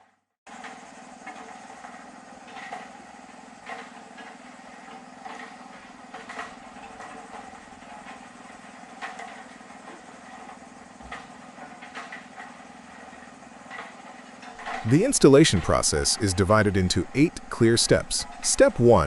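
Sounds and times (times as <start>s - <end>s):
small engine running: 0.5s - 19.0s.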